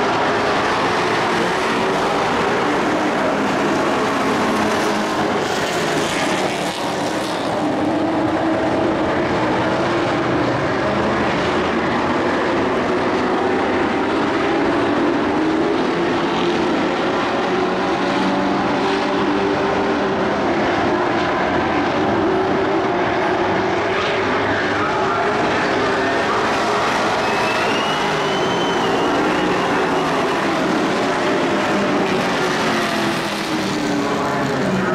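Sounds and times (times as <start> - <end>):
race truck engines running: 0.0 - 34.9.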